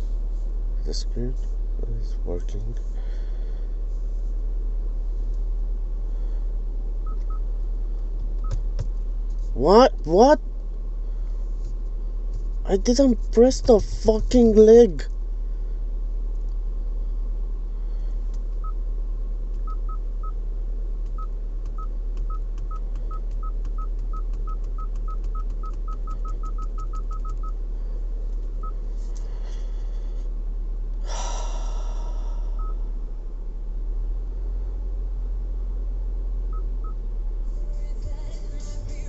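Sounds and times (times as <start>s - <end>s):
low cabin hum: 0.0s - 39.0s.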